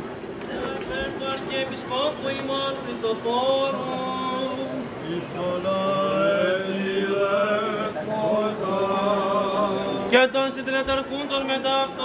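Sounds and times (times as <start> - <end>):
men singing chant: 0.9 - 12.0.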